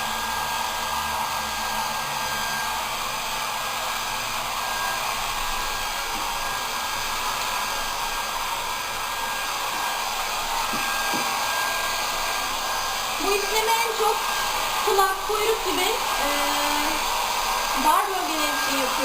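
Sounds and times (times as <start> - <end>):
blow dryer rushing air: 0.0 - 19.0.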